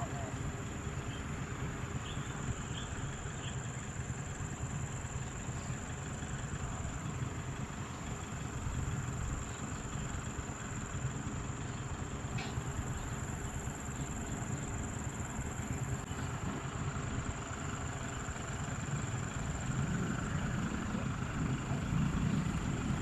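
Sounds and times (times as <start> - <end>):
low vehicle rumble: 0.0 - 23.0.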